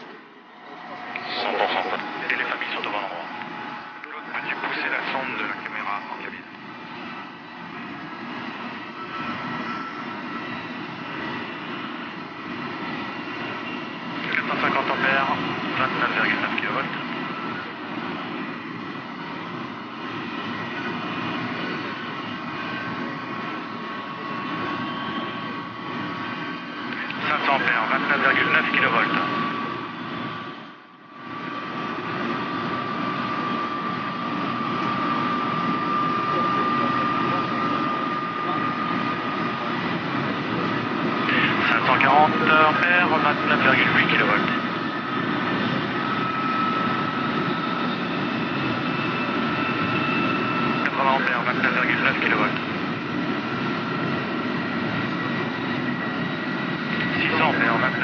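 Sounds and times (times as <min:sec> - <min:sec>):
faint whining tones: 0:00.0 - 0:58.0
train rushing noise: 0:00.0 - 0:58.0.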